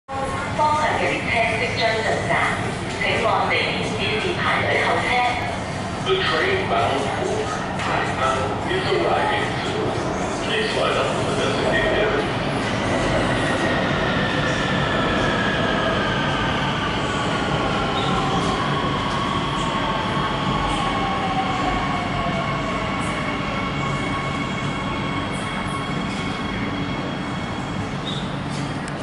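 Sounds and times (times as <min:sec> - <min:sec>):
metro train running noise: 0:00.1 - 0:29.0.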